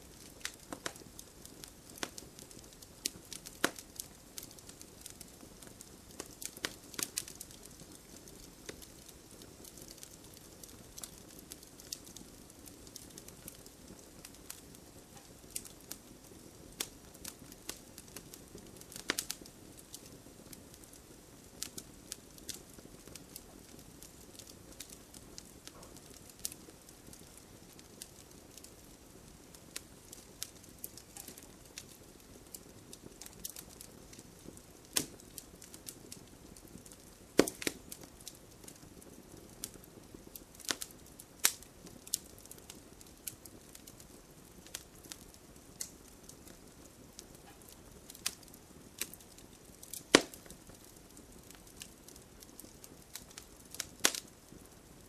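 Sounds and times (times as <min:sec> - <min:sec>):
fire popping and snapping: 0:00.0 - 0:55.0
wood fire crackling: 0:00.0 - 0:55.0.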